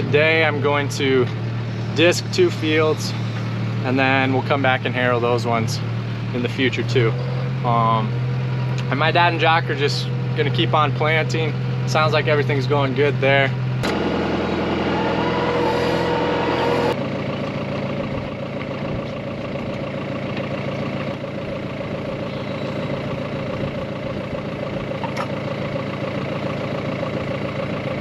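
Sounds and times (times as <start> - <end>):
diesel tractor engine idling: 0.0 - 28.0.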